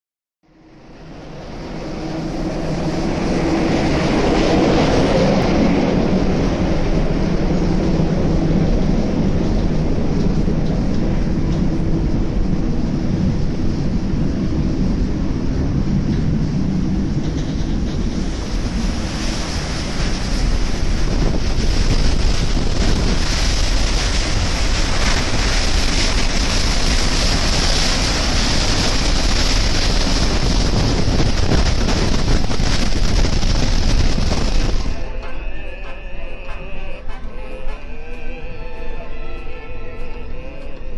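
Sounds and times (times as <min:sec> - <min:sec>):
wind buffeting microphone: 0:00.6 - 0:38.0
sea waves breaking on ship hull: 0:01.0 - 0:38.0.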